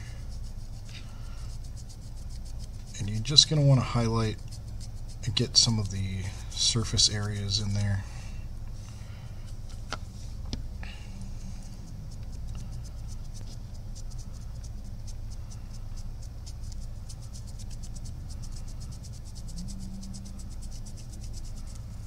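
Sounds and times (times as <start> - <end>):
paintbrush bristles scratching: 0.0 - 8.0, 11.2 - 22.0
low hum: 0.0 - 22.0.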